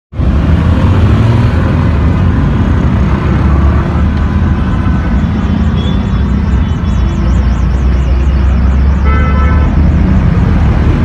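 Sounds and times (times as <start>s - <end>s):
cars passing: 0.1s - 11.0s
motorcycles passing: 0.2s - 11.0s.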